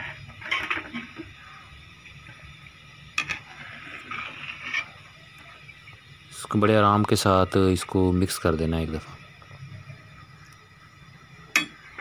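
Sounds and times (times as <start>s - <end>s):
pot simmering with soft crackles: 0.0s - 12.0s.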